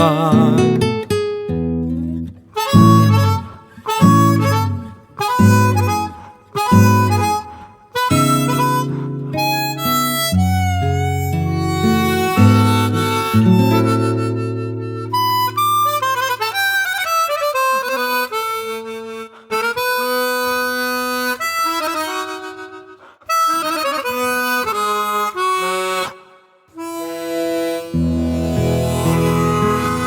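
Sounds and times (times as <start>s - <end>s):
harmonica melody: 0.0s - 30.0s.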